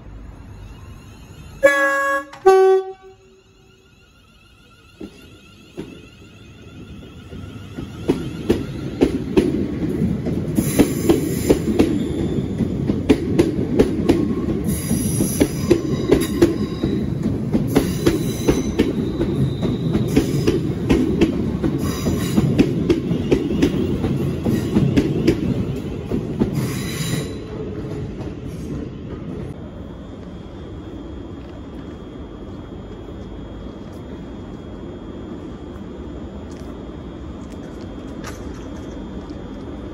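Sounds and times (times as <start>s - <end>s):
electric train rumbling: 0.0s - 39.9s.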